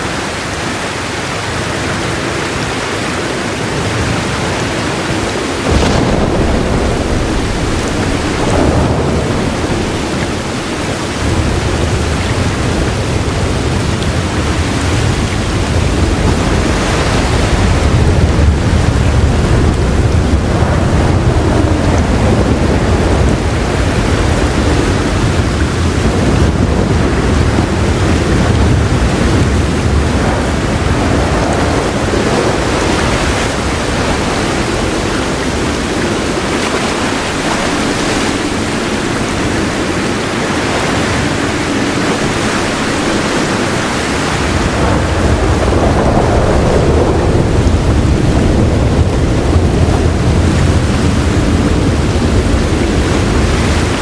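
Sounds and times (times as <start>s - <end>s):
heavy rain falling: 0.0s - 54.0s
low rolling thunder: 3.6s - 54.0s.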